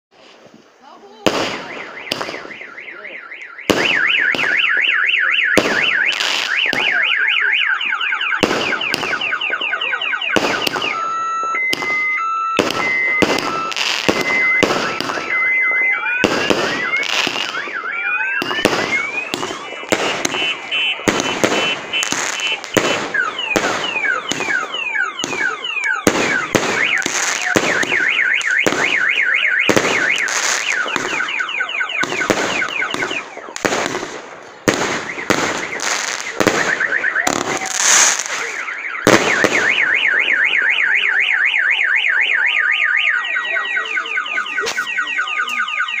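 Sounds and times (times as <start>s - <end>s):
fireworks banging: 0.2s - 46.0s
electronic alarms wailing: 1.5s - 33.6s, 35.0s - 46.0s.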